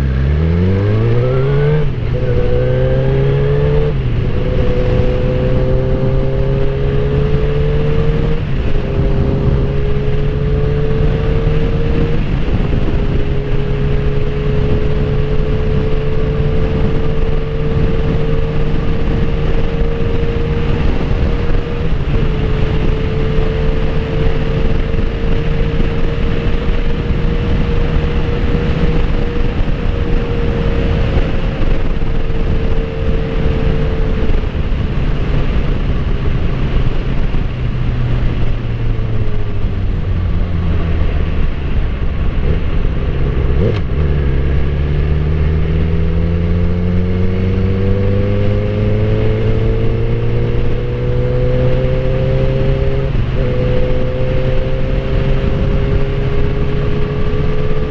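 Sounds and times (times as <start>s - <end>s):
motorcycle engine cruising: 0.0s - 57.9s
wind rush: 0.0s - 57.9s.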